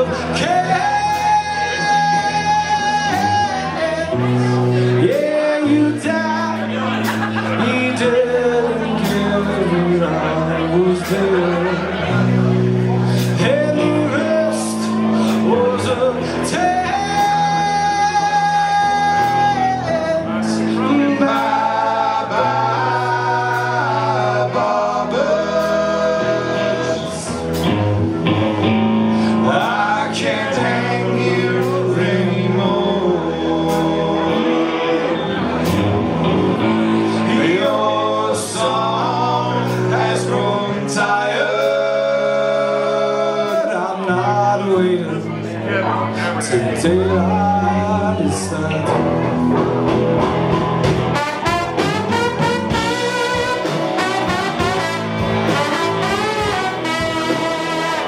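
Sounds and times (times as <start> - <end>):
person singing: 0.0 - 27.8, 29.1 - 50.2, 51.1 - 58.0
live band playing: 0.0 - 58.0.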